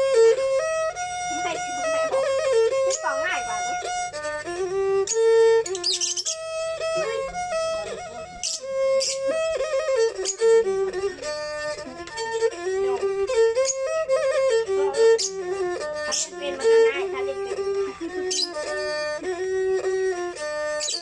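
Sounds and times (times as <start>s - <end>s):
fiddles bowing a melody: 0.0s - 21.0s.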